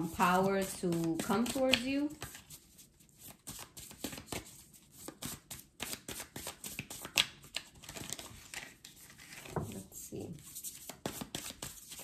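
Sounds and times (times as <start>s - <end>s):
cards being shuffled: 0.0s - 9.8s, 10.4s - 12.0s.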